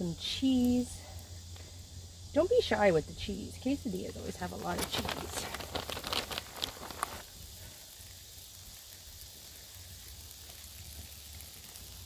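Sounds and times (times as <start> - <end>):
food sizzling in skillet: 0.0 - 12.0
sharp crackles: 2.3 - 12.0.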